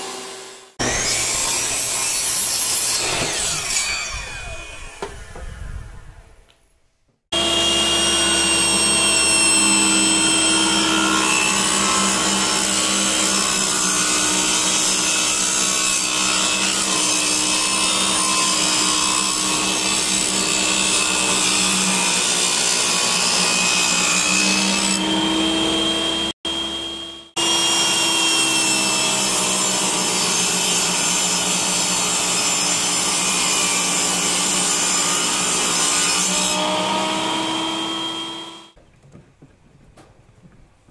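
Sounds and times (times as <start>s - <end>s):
table saw ripping wood: 0.0s - 6.2s, 7.4s - 38.8s.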